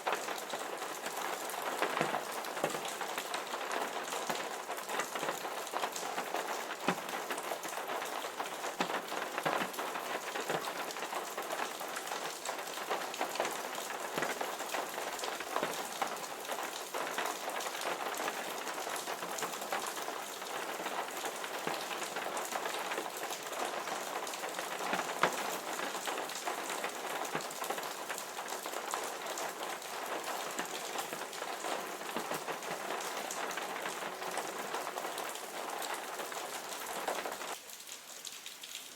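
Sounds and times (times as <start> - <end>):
raindrops ticking close by: 0.0 - 38.9
steady rain falling: 0.0 - 38.9.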